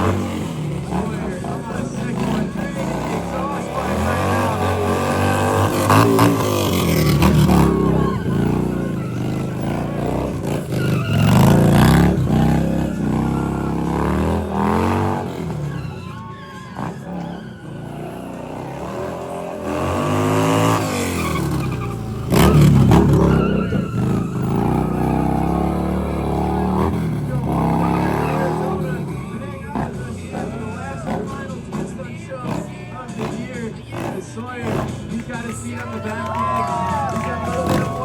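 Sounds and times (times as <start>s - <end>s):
motorcycle engine revving: 0.0s - 38.0s
tyres skidding on pavement: 0.0s - 38.0s.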